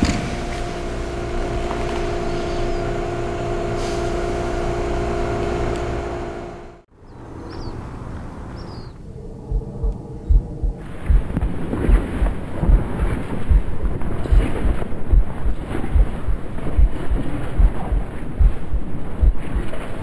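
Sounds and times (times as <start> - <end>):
loud steady hum with rumble: 0.0 - 6.9, 9.5 - 19.9
open-air ambience: 0.0 - 20.0.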